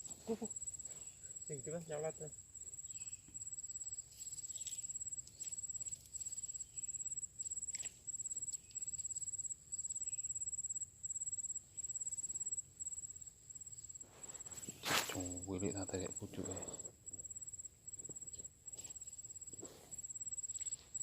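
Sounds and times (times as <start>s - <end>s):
cricket trilling: 0.0s - 21.0s.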